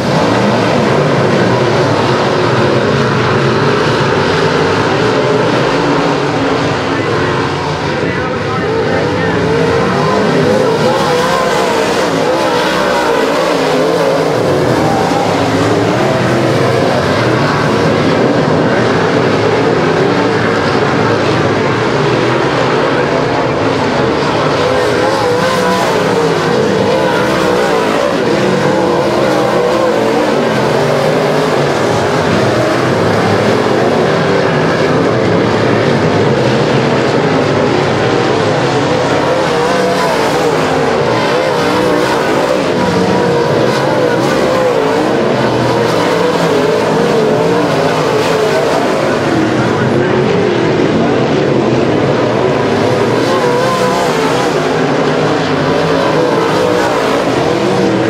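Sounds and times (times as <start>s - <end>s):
race car engines at speed: 0.0s - 58.0s.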